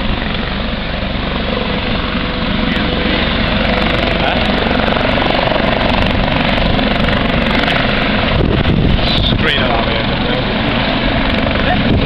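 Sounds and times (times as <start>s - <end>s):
helicopter rotor beating: 0.0s - 12.0s
turbine engines running: 0.0s - 12.0s.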